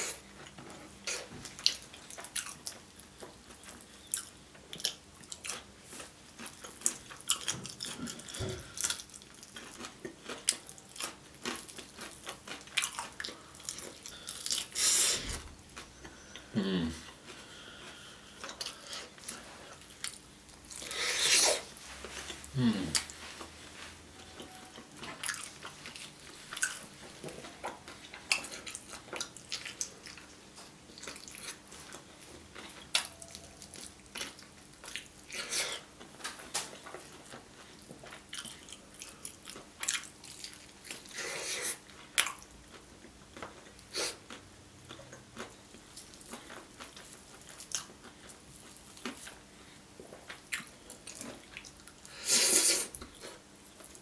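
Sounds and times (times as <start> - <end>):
close chewing and biting: 0.0 - 23.5, 24.2 - 54.0.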